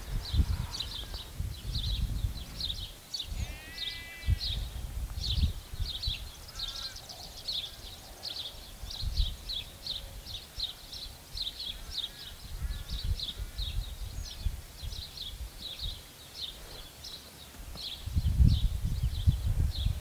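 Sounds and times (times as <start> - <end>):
wind rumbling on microphone: 0.0 - 17.0, 17.6 - 20.0
small bird chirping: 0.1 - 20.0.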